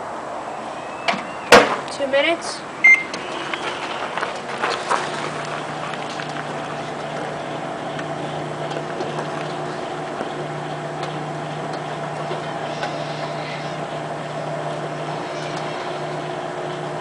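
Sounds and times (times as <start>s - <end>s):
microwave oven humming: 2.7s - 17.0s.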